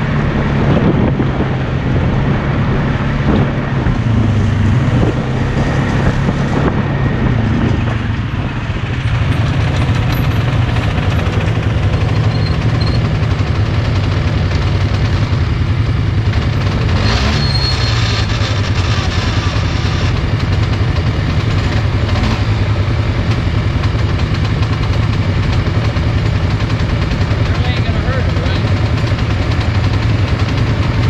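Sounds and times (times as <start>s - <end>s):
atv engines idling: 0.0s - 31.0s.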